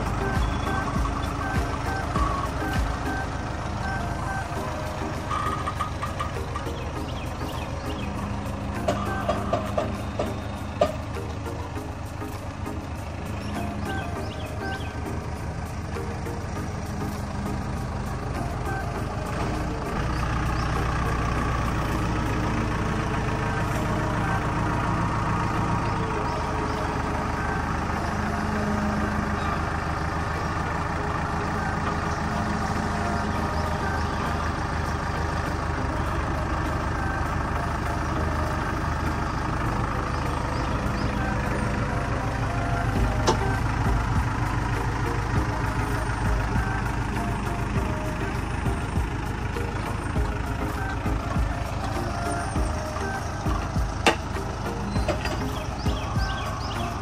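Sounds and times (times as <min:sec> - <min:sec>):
large engine idling: 0:00.0 - 0:57.0.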